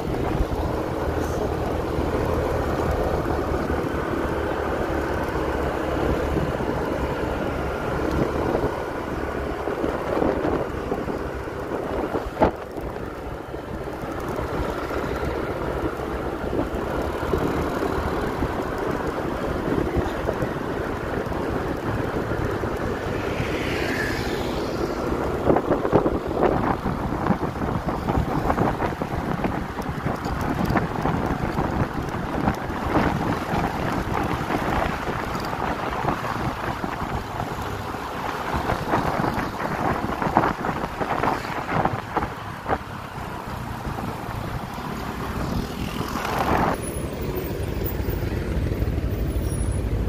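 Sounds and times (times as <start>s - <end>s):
wind buffeting microphone: 0.0s - 46.8s
vehicle engine and tyre noise: 0.0s - 50.0s.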